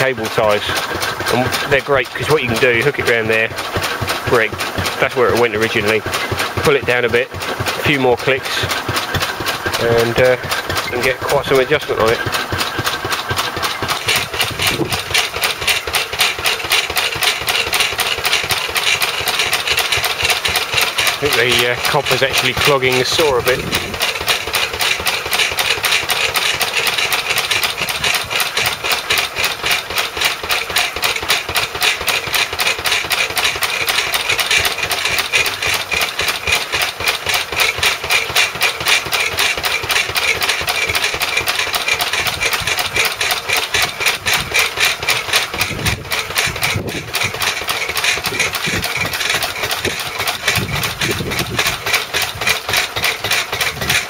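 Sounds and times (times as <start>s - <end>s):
stationary engine running: 0.0s - 54.0s.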